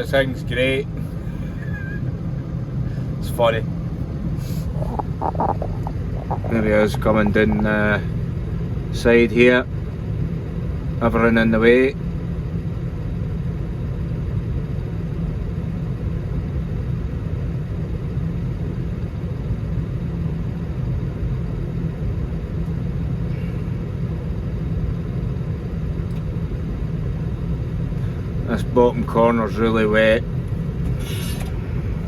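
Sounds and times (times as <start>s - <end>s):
engine droning: 0.0s - 32.0s.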